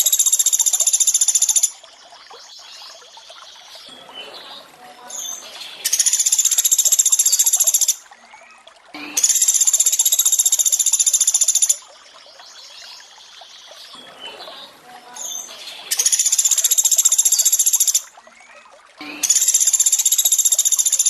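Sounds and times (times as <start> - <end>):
trickle of running water: 0.0 - 21.0.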